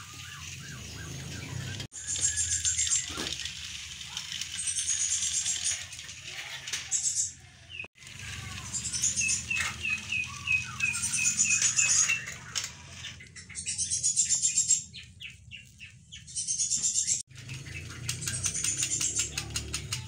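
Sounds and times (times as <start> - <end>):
bird song with trilled phrases: 0.0 - 3.4, 4.5 - 20.0.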